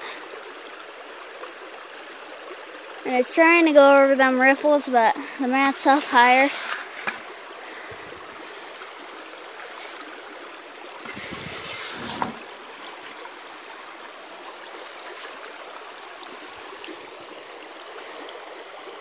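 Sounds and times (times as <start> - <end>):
water running through sluice box: 0.0 - 19.0.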